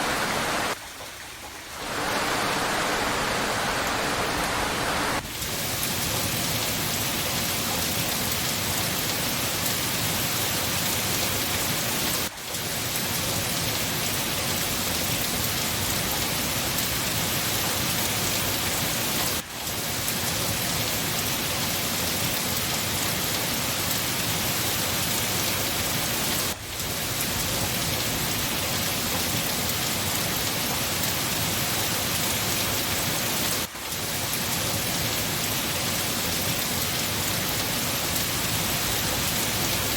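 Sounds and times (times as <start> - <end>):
heavy rain hiss: 0.0 - 0.8, 1.7 - 39.9.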